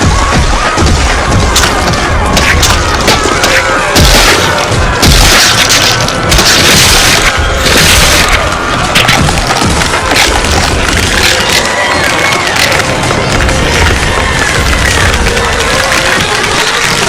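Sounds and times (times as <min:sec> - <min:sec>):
booms crashes and impacts: 0:00.0 - 0:17.0.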